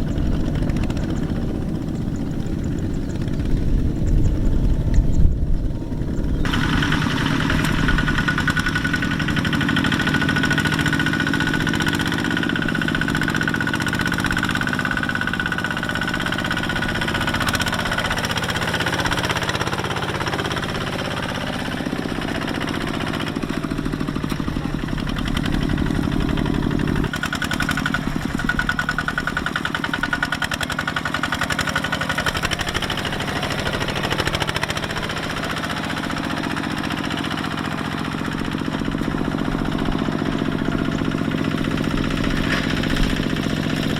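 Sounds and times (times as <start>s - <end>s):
tractor diesel engine chugging: 0.0s - 43.9s.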